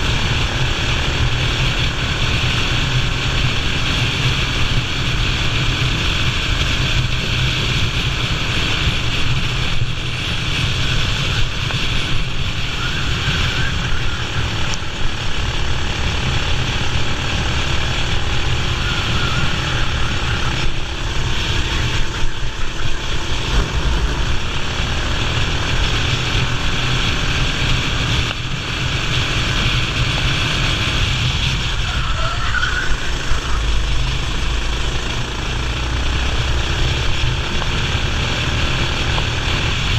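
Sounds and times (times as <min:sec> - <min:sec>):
kart engine running at speed: 0:00.0 - 0:39.9.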